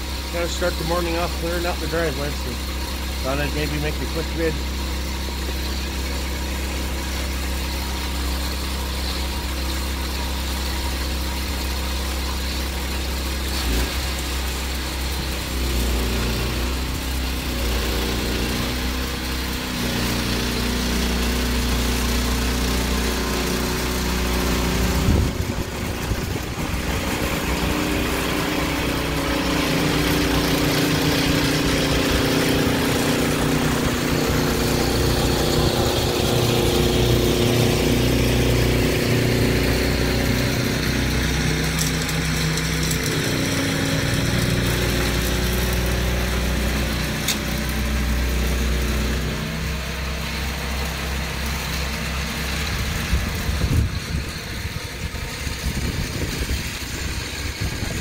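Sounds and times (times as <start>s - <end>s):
snow blower engine running: 0.0s - 58.0s.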